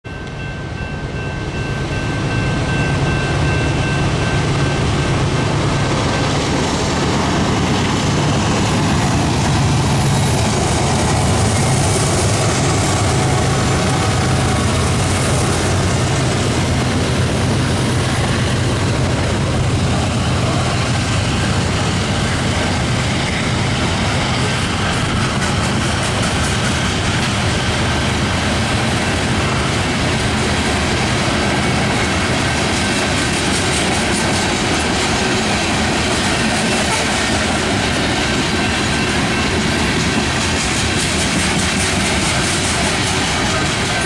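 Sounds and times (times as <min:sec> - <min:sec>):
diesel locomotives rumbling: 0:00.0 - 0:44.0
freight cars rolling on rails: 0:00.1 - 0:44.0.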